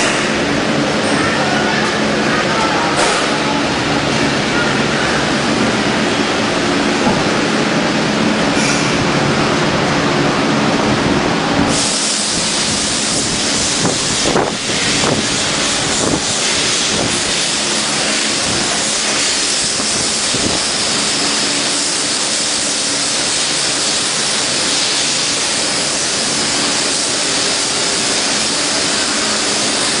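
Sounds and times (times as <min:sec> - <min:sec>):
factory machinery hiss and hum: 0:00.0 - 0:30.0.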